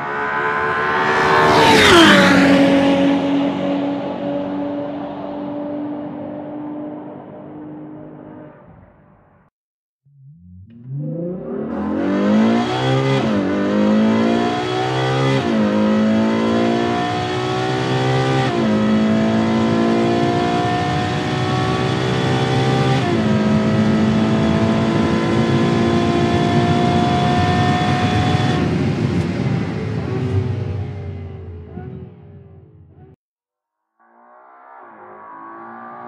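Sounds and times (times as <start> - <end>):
car engine accelerating hard: 0.0 - 8.9, 10.4 - 32.9, 34.6 - 36.0.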